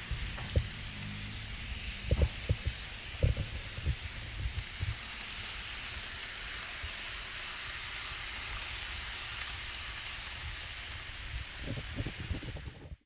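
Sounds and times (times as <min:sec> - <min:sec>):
steady hissing noise: 0:00.0 - 0:13.0.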